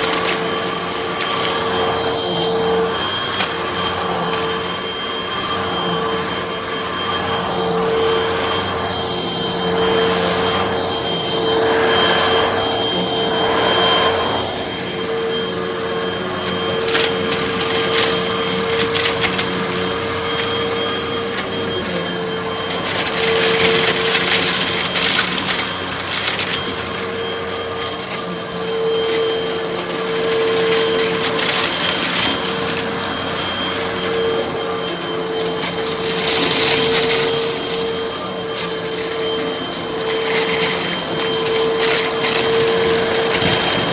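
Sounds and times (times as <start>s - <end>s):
vacuum cleaner motor hum: 0.0s - 43.9s.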